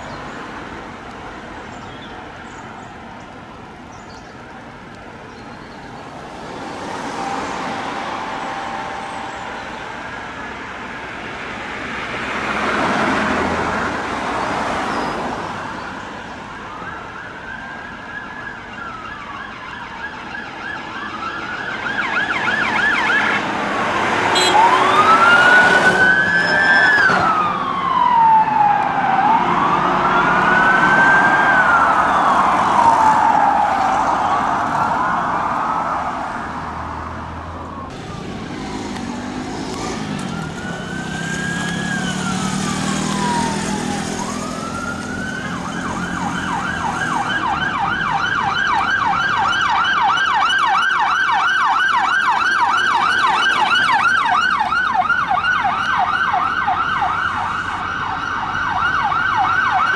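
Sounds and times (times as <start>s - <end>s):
police sirens wailing: 0.0s - 59.9s
traffic: 0.0s - 59.9s.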